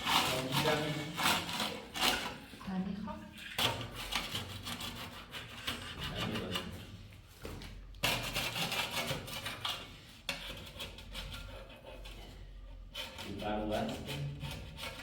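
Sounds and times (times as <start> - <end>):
hand tool scraping hard surface: 0.0 - 2.4, 3.6 - 7.0, 8.0 - 15.0.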